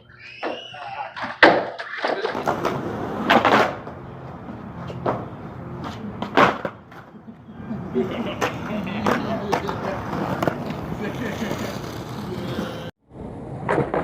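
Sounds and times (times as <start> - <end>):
skateboard clack: 1.2 - 12.9
skateboard wheels rolling on concrete: 1.2 - 14.0.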